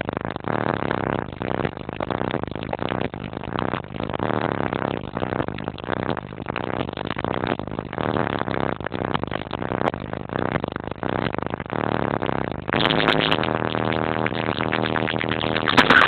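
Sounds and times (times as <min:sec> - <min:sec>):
car audio music with heavy bass: 0:00.0 - 0:16.0.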